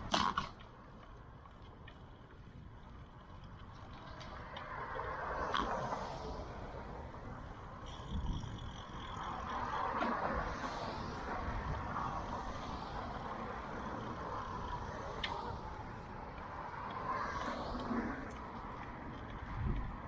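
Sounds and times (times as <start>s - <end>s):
outdoor traffic rumble: 0.0s - 20.0s.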